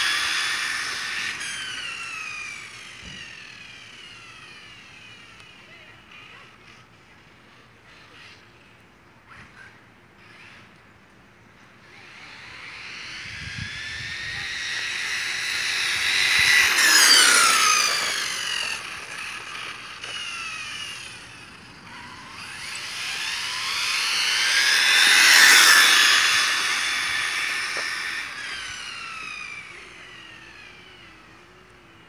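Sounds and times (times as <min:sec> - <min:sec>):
rc car motor whining past: 0:00.0 - 0:06.9, 0:07.5 - 0:11.0, 0:11.6 - 0:32.0.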